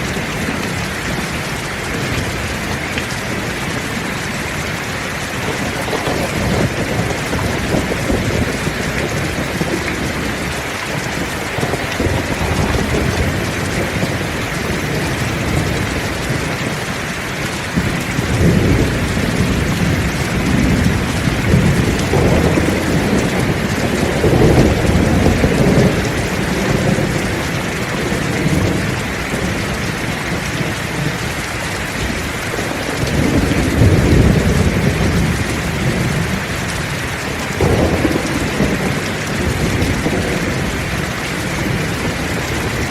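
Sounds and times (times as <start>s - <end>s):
heavy rain falling: 0.0s - 42.9s
low rolls of thunder: 5.4s - 17.0s, 17.7s - 31.2s, 32.0s - 42.9s.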